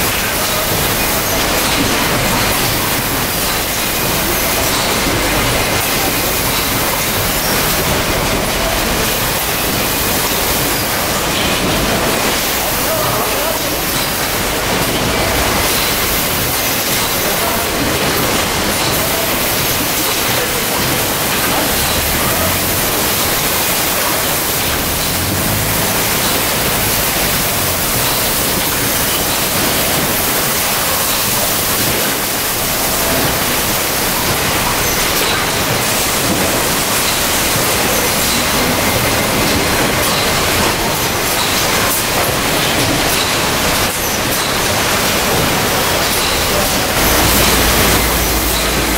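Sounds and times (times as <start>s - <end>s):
conveyor line hiss and rumble: 0.0s - 48.9s.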